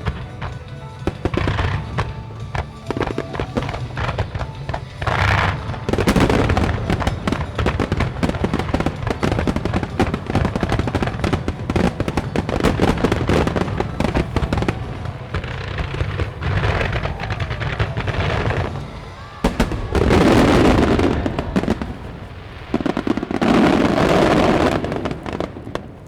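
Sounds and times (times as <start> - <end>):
firework shell bursts crackling: 0.0 - 26.0.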